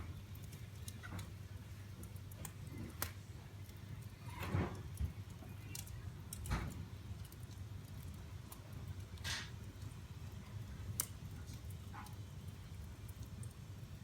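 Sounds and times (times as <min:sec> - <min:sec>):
fire popping and crackling: 0:00.0 - 0:14.0
wood fire rumbling: 0:00.0 - 0:14.0.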